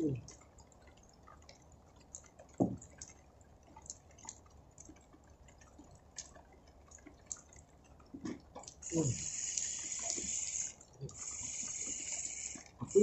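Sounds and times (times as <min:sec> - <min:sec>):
rainwater dripping: 0:00.0 - 0:13.0.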